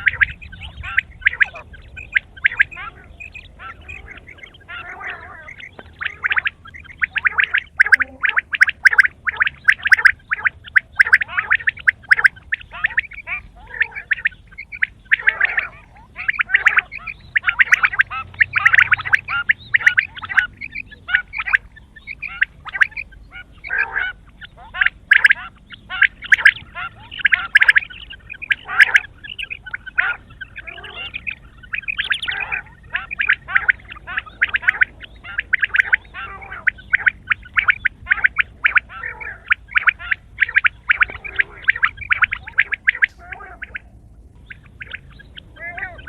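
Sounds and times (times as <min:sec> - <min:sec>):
quail calling: 0:00.0 - 0:46.0.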